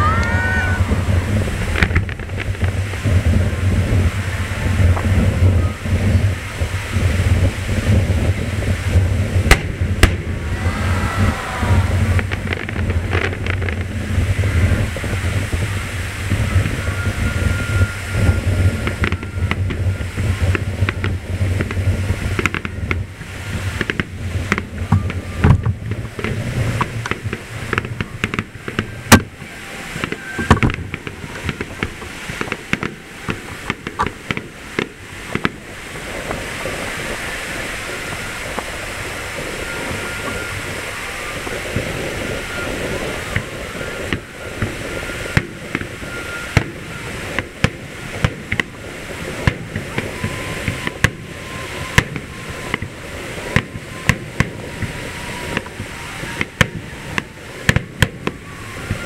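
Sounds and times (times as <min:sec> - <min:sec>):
fireworks booming: 0:00.0 - 0:59.0
steady rushing noise: 0:00.0 - 0:59.0.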